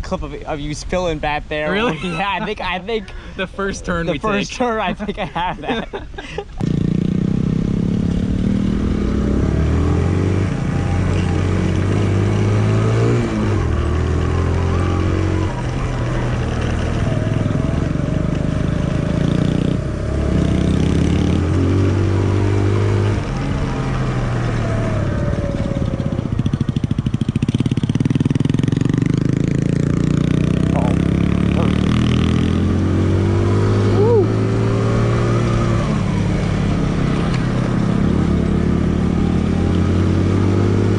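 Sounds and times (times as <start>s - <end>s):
motorcycle engine revving: 6.6s - 40.9s.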